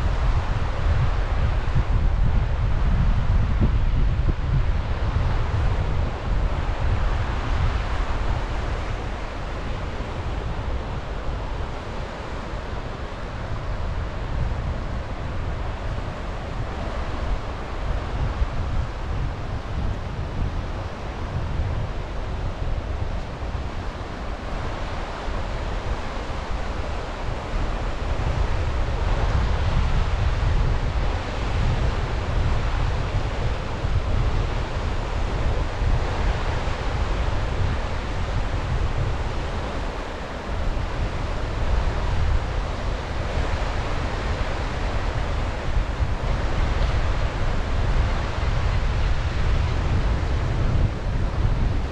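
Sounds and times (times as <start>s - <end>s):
wind buffeting microphone: 0.0s - 51.9s
sea waves washing onto shore: 4.7s - 51.9s.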